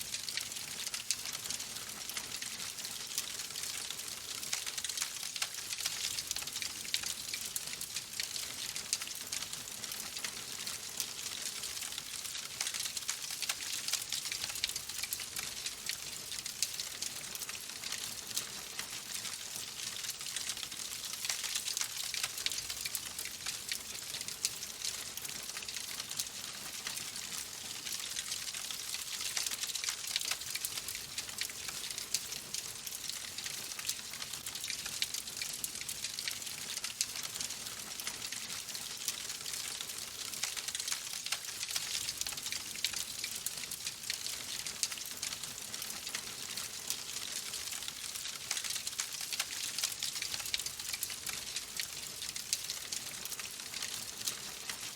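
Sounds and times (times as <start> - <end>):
fire crackling and popping: 0.3 - 54.8.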